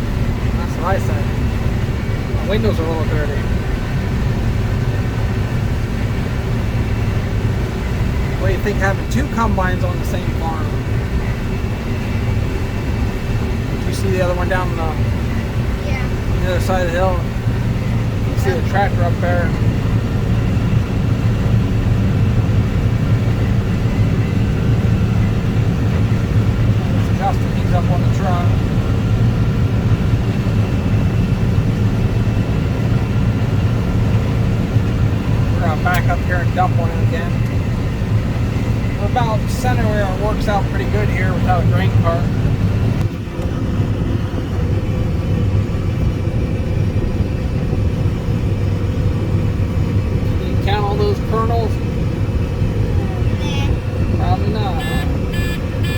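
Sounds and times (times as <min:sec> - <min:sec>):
combine harvester low rumble: 0:00.0 - 0:55.9.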